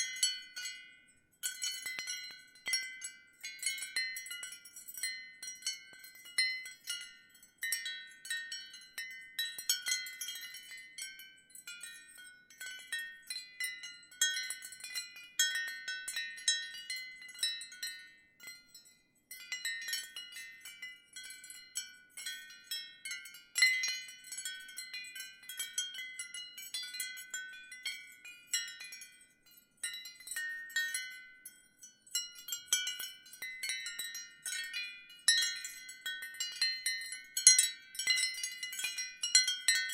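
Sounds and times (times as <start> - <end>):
ceramic wind chimes tinkling: 0.0 - 39.9.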